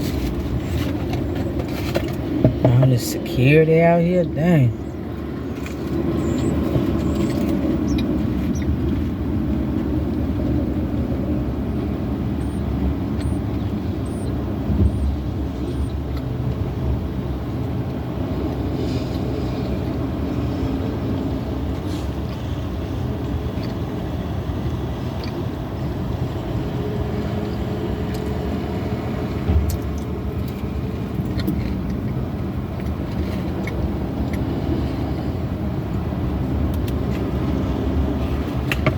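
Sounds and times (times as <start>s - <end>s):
vehicle rumble and hum: 0.0s - 38.9s.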